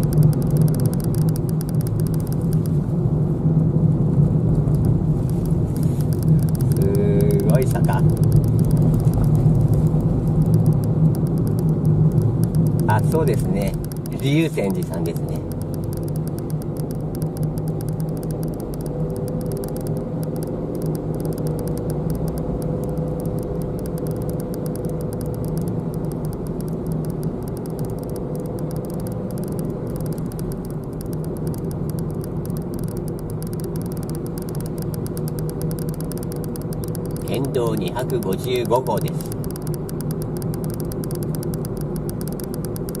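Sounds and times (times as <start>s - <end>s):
car engine and tyre hum: 0.0s - 43.0s.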